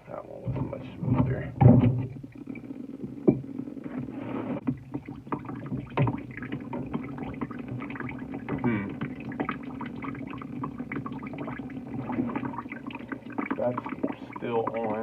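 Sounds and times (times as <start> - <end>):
water gurgling into a cup: 0.3 - 15.0.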